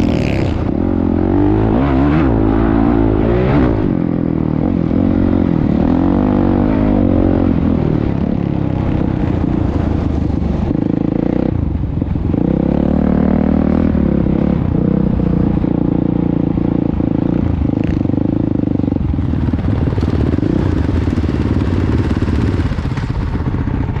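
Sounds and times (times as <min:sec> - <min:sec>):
motorcycle engine running hard: 0:00.0 - 0:24.0.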